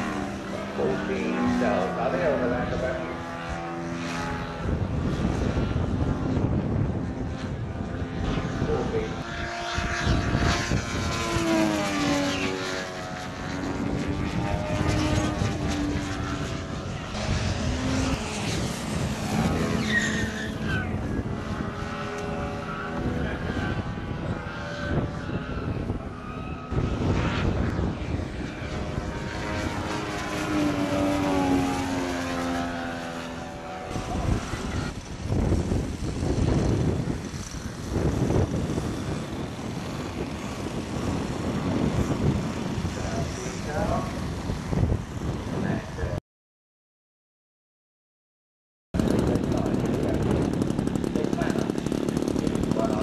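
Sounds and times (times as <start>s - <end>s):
model plane engine and propeller: 0.0s - 46.2s, 49.0s - 53.0s.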